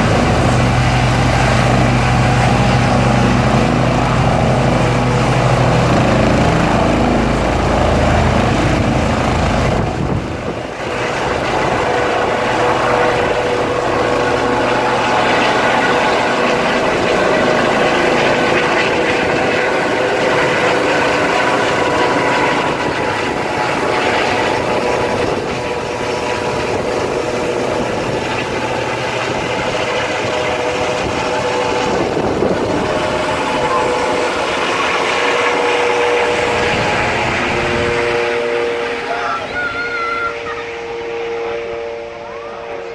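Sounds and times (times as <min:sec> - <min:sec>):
helicopter rotor and turbine: 0:00.0 - 0:42.9.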